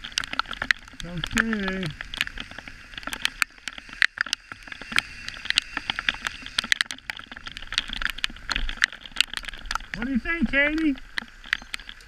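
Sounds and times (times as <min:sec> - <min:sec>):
raindrops tapping on camera: 0:00.0 - 0:12.0
steady hiss of rain: 0:00.0 - 0:12.0.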